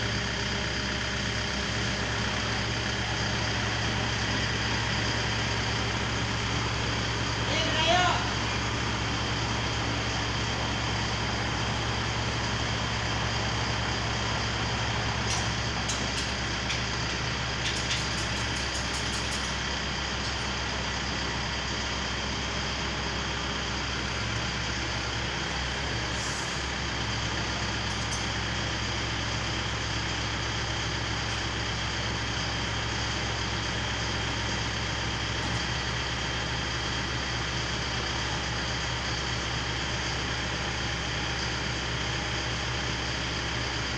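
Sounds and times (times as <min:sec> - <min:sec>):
truck engine humming: 0:00.0 - 0:43.9.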